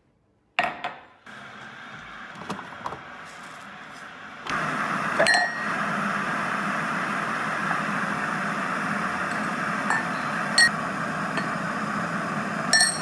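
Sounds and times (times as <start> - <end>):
kettle boiling water: 1.3 - 13.0.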